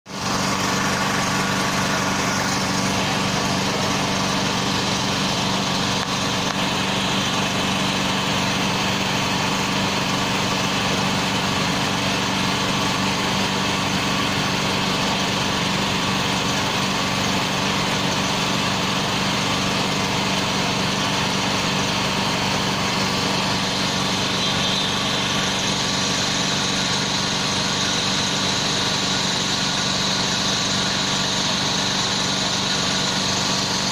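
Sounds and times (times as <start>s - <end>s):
truck engine idling: 0.1s - 33.9s.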